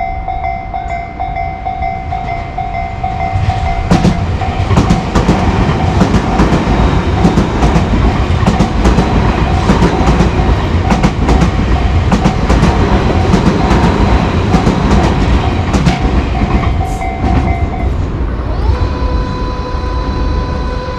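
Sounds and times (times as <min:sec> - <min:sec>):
train wheels clattering: 0:00.0 - 0:18.2
crossing warning bell ringing: 0:00.0 - 0:20.9
train whine: 0:00.0 - 0:20.9.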